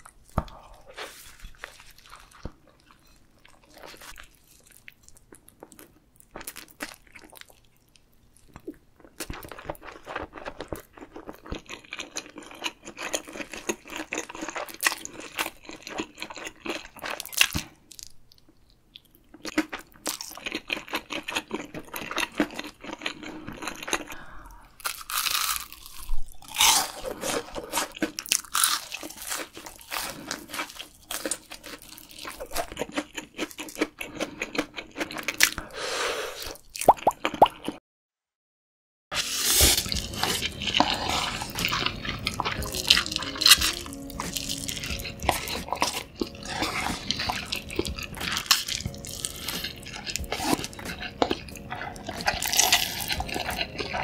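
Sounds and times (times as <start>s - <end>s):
crunching and chewing food: 0.0s - 35.7s, 39.3s - 54.0s.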